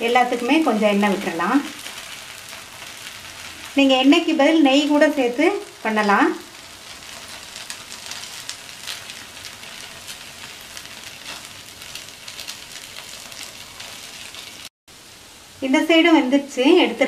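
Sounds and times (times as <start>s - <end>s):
oil sizzling and crackling: 0.0s - 15.6s.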